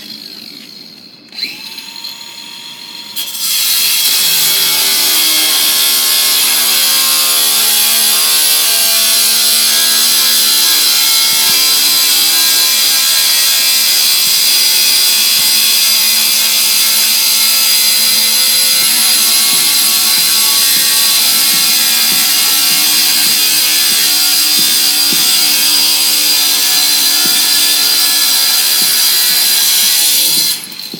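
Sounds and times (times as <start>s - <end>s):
circular saw cutting: 0.0s - 30.9s.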